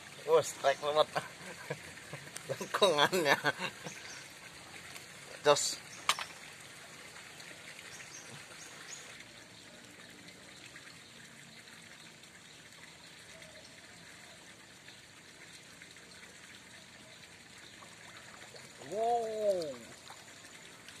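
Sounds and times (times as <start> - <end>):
faint trickling water: 0.0 - 21.0.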